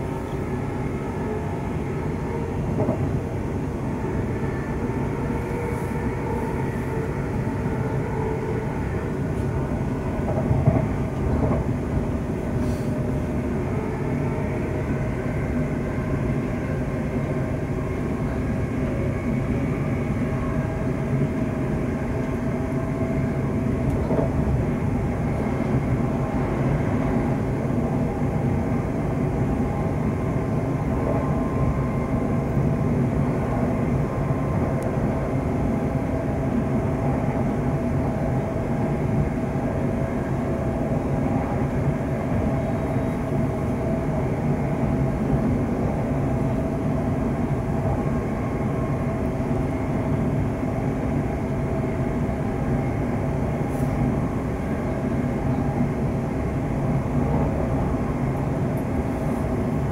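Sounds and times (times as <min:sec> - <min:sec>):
rumble of wheels on rail: 0:00.0 - 0:59.9.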